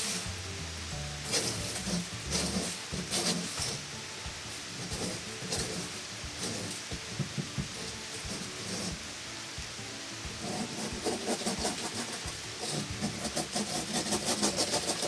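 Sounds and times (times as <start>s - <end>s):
scraping and rubbing strokes: 0.0s - 9.2s, 10.3s - 15.0s.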